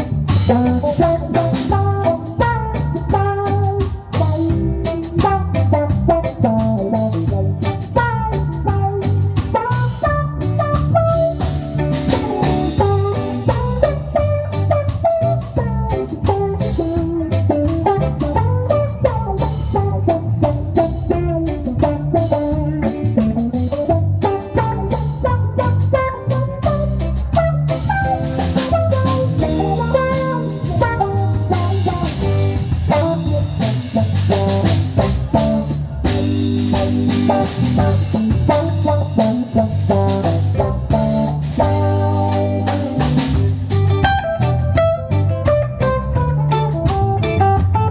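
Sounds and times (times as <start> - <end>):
drum kit: 0.0 - 47.9
electric guitar: 0.0 - 47.9
steady low bass line: 0.0 - 47.9.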